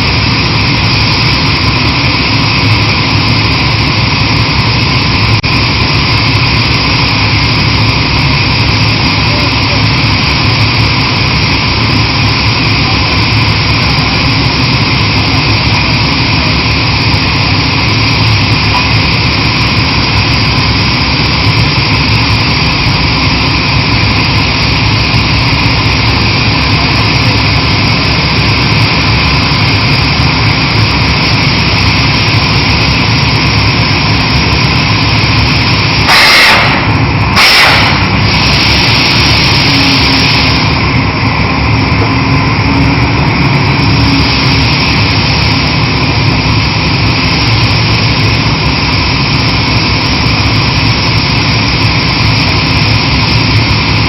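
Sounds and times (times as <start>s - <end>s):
drilling rig running: 0.0s - 54.0s
loud hiss bursts: 0.0s - 54.0s.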